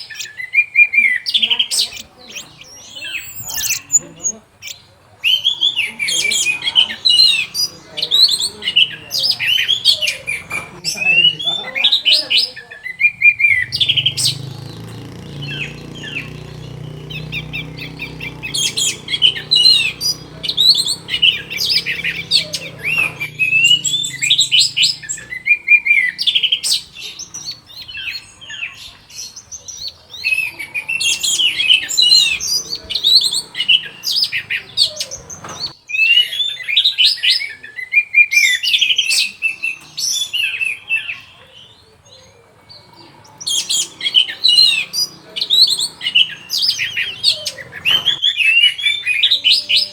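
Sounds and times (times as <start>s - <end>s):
thrush singing: 0.0s - 29.3s, 29.9s - 35.8s, 42.4s - 49.9s.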